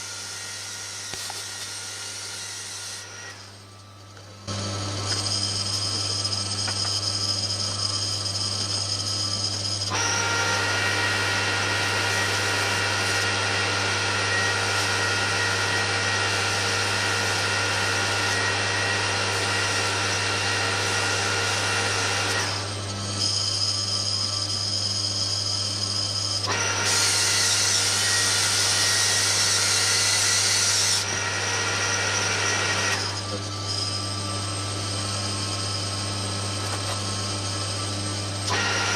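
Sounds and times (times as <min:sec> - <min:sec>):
lathe motor hum: 0:00.0 - 0:38.9
lathe tool cutting metal: 0:00.0 - 0:38.9.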